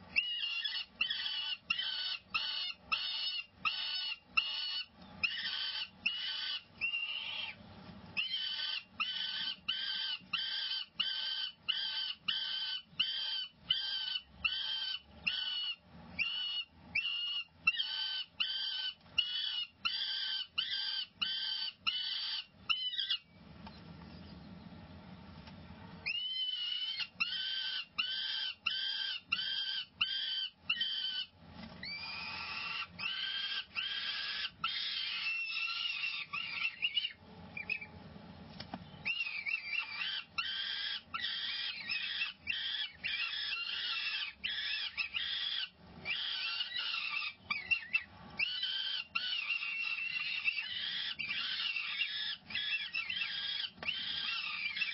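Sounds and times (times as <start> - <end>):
falcon chicks screeching: 0.0 - 7.6, 8.2 - 23.3, 26.0 - 37.9, 39.0 - 54.9
falcon chicks wailing: 0.0 - 7.6, 8.2 - 23.3, 26.0 - 37.9, 38.8 - 54.9.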